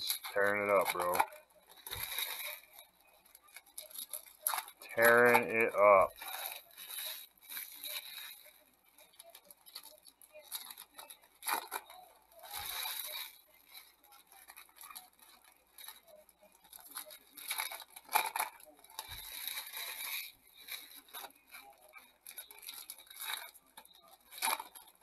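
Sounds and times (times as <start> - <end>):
foil wrappers crinkling and tearing: 0.0 - 25.0.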